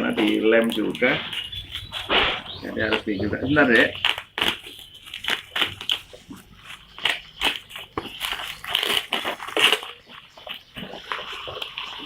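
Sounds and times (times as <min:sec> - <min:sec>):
packaging crunching and crinkling: 0:00.0 - 0:12.0.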